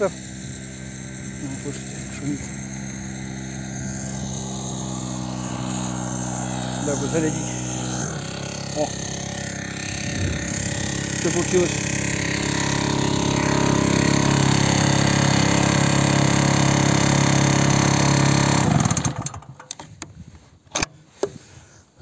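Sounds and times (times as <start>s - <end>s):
petrol generator running: 0.0s - 19.8s.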